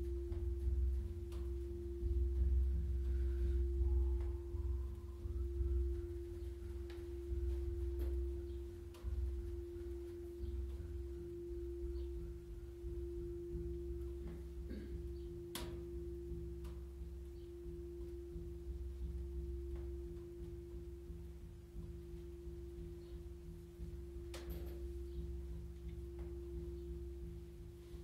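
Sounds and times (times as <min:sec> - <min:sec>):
low rumble: 0:00.0 - 0:28.0
pure tone drone: 0:00.0 - 0:28.0.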